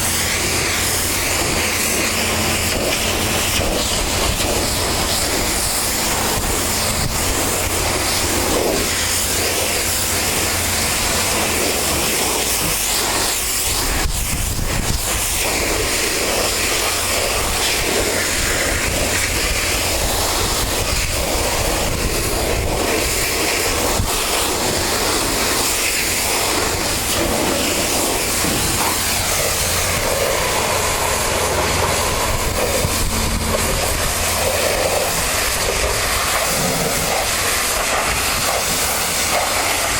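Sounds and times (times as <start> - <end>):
pressure washer spraying water: 0.0 - 39.9
pump and motor humming: 0.0 - 39.9.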